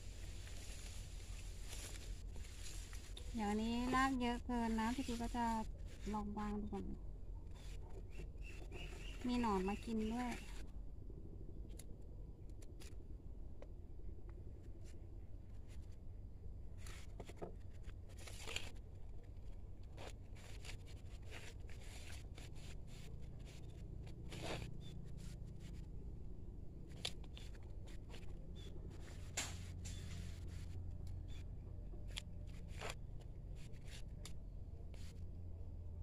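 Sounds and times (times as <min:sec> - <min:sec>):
gloved hands crackling and scraping: 0:00.0 - 0:10.7, 0:14.3 - 0:35.4
low steady hum: 0:00.0 - 0:36.0.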